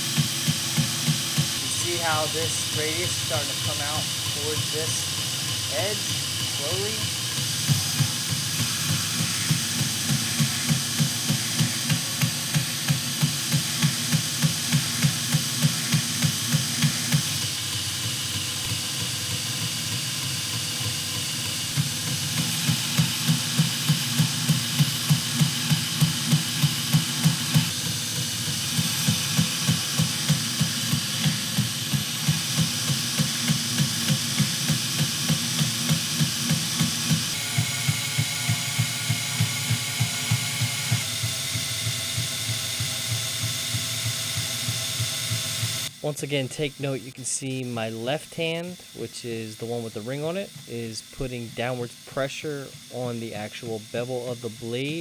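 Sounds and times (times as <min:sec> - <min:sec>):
belt grinder grinding knife blade: 0:00.0 - 0:46.0.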